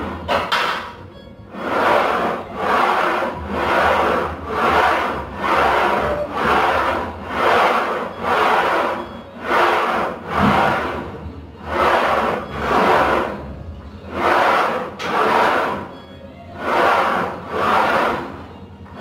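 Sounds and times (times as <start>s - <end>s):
rasping rubbing of leg press: 0.0s - 19.0s.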